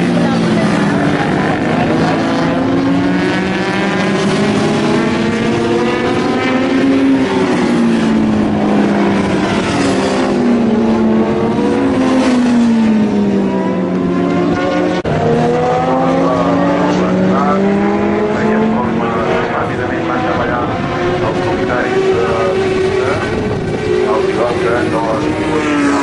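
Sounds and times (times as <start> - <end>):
racing motorcycles passing: 0.0 - 26.0.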